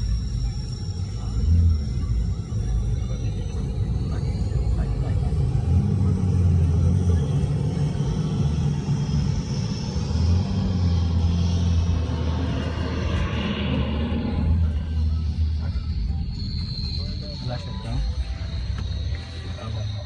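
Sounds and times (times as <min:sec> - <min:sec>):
car driving fast rumble: 0:00.0 - 0:20.0
jet engine whine: 0:00.0 - 0:20.0.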